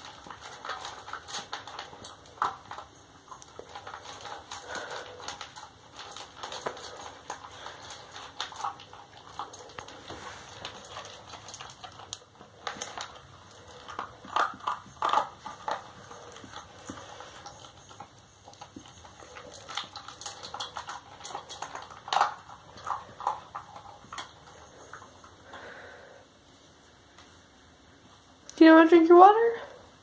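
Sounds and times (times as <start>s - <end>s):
dog crunching dry kibble: 0.0s - 25.9s.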